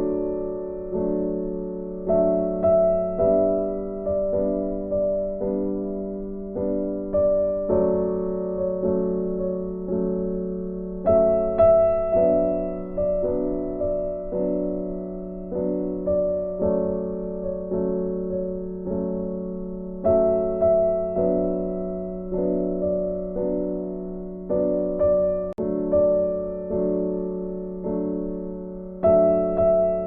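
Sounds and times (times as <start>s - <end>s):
soft piano music: 0.0s - 30.0s.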